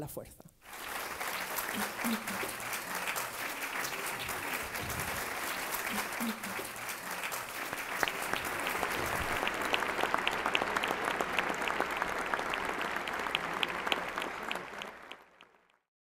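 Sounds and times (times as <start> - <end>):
audience applauding: 0.6 - 15.9.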